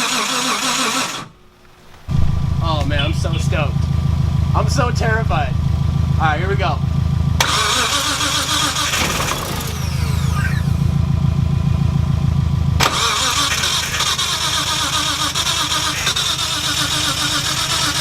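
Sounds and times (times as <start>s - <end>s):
turbocharged car engine running: 2.1s - 18.0s.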